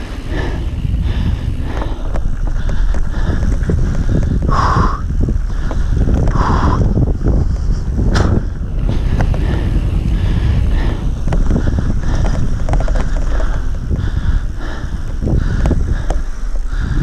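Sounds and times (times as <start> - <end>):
bike clicks and rattles: 0.0 - 17.0
tyres rumbling on dirt: 0.0 - 17.0
wind buffeting microphone: 0.0 - 17.0.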